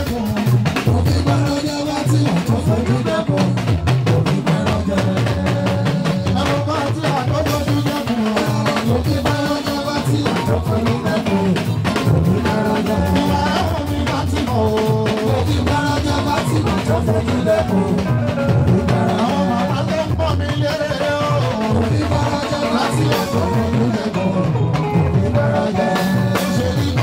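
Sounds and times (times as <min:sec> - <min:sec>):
drum and percussion rhythm: 0:00.0 - 0:27.0
man singing into a microphone: 0:00.0 - 0:27.0.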